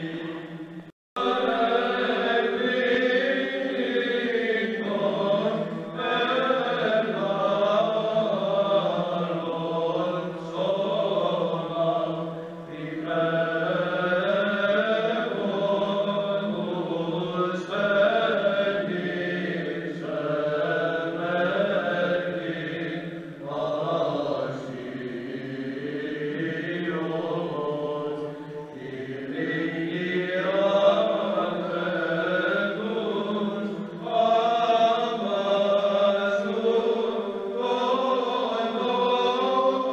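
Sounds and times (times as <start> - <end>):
male choir chanting: 0.0 - 0.6, 1.2 - 39.9
low held vocal drone: 0.0 - 39.9.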